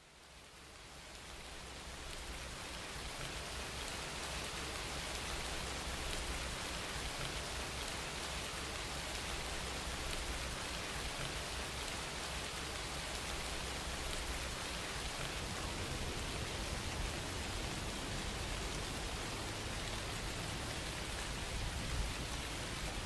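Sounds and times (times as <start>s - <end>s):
rain pattering on a surface: 0.0s - 23.0s.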